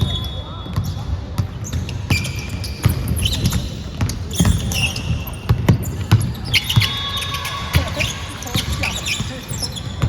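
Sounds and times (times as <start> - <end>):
sneaker squeaks: 0.0 - 10.0
basketball bouncing: 0.8 - 10.0.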